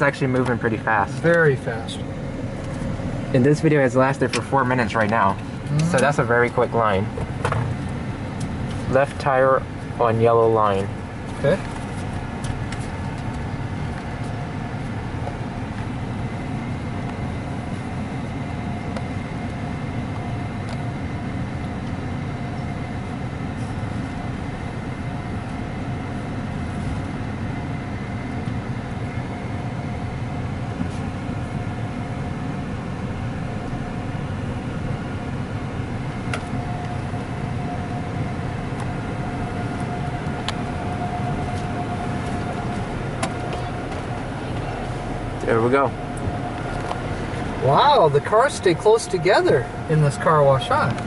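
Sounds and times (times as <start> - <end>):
car wash machinery whine: 0.0 - 51.0
truck idling rumble: 0.0 - 51.0.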